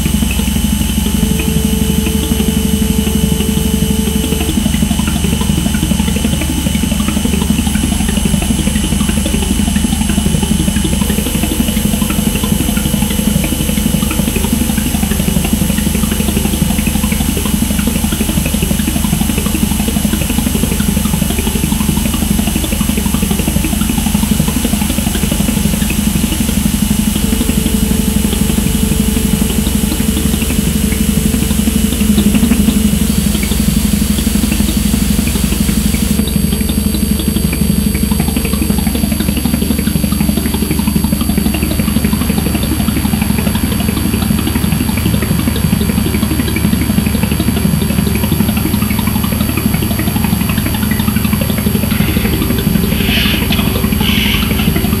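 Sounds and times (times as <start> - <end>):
electronic drone music: 0.0 - 55.0.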